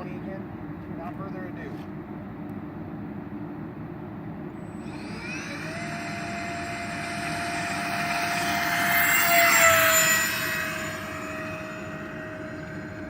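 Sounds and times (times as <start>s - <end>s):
electric fans high whine: 0.0s - 13.0s.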